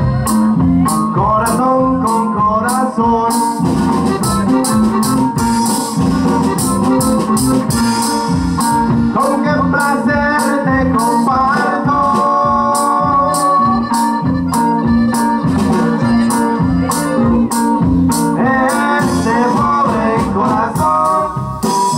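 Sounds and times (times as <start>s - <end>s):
accordion melody: 0.0s - 21.9s
bass line: 0.0s - 21.9s
drum beat: 0.0s - 21.9s.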